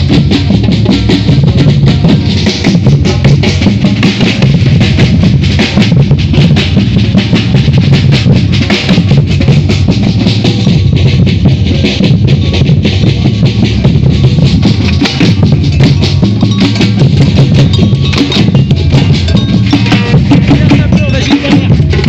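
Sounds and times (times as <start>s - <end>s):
deep bass drums: 0.0s - 22.0s.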